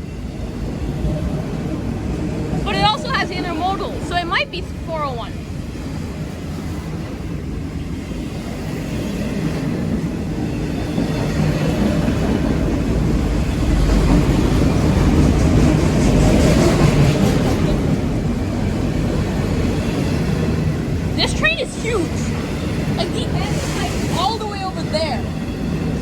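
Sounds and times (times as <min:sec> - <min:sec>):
freight train cars rolling past: 0:00.0 - 0:26.0.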